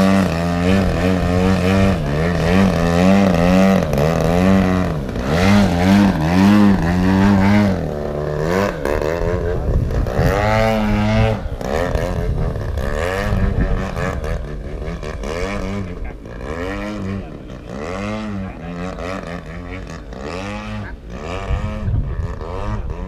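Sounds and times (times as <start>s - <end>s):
model airplane motor buzzing: 0.0s - 23.0s.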